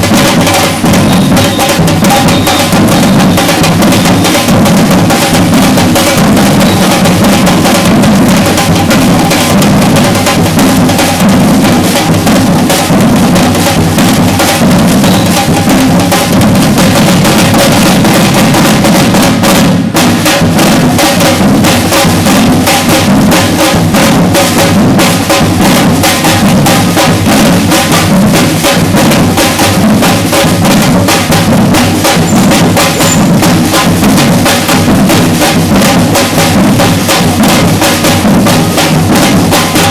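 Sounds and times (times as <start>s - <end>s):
snare drums: 0.0s - 39.9s
surdo bass drums: 0.0s - 39.9s.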